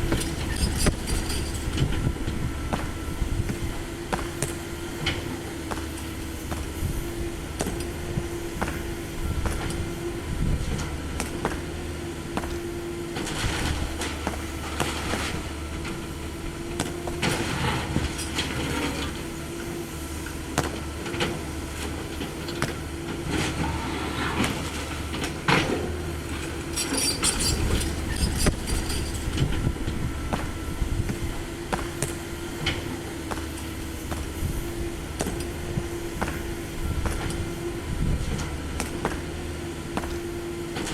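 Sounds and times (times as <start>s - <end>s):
excavator diesel engine whining: 0.0s - 40.9s.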